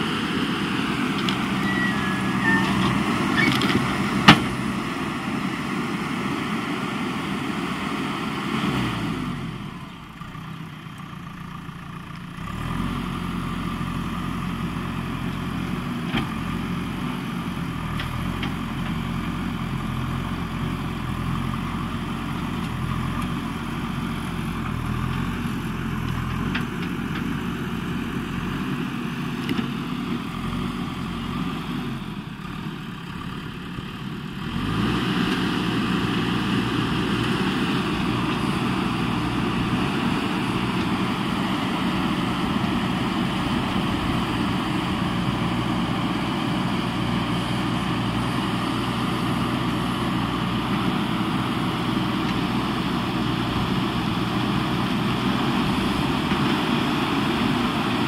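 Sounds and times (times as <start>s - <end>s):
diesel engine running and revving: 0.0s - 58.0s.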